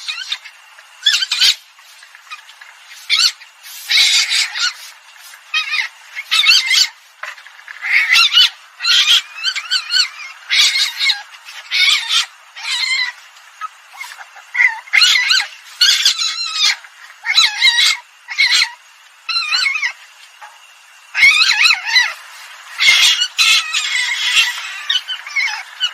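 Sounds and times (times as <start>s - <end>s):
civet calls: 0.0s - 20.0s, 21.1s - 25.9s.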